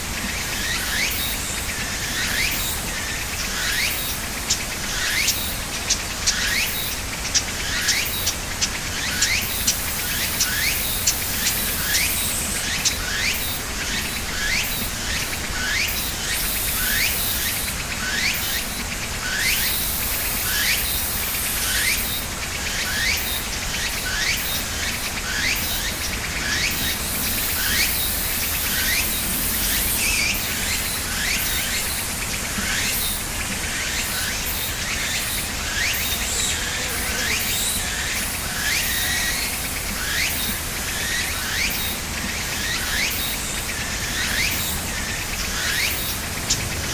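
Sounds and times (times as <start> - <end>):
steady high hiss: 0.0 - 46.9.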